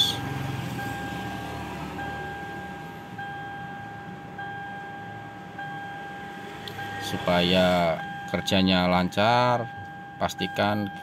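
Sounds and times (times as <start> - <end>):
electronic warning tone: 0.0 - 11.0.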